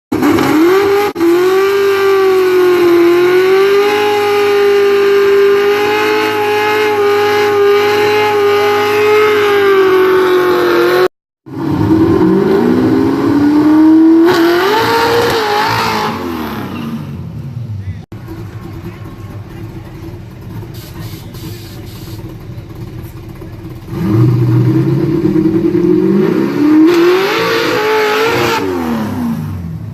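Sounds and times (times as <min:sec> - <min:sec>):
race car engine revving: 0:00.1 - 0:29.9.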